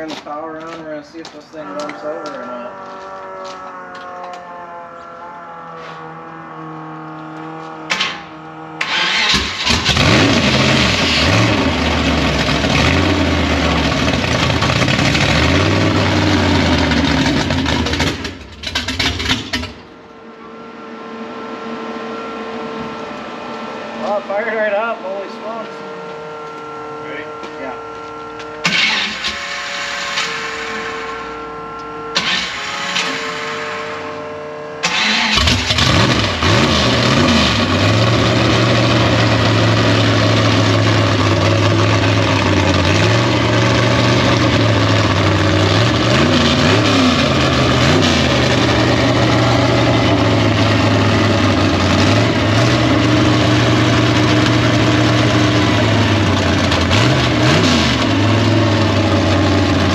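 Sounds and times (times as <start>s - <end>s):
loud engine running unevenly: 0.0s - 59.9s
engine popping back: 3.2s - 20.0s, 22.2s - 59.9s
starter motor whine: 3.8s - 59.9s.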